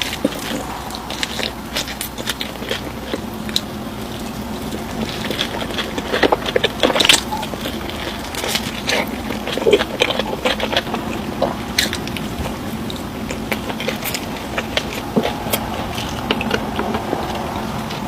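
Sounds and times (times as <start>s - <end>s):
low hum: 0.0s - 18.0s
person chewing food: 0.0s - 18.0s.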